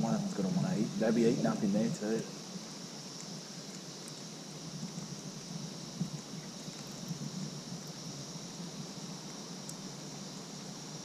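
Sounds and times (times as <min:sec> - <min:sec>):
low fluttering rumble: 0:00.0 - 0:02.3, 0:03.7 - 0:10.4.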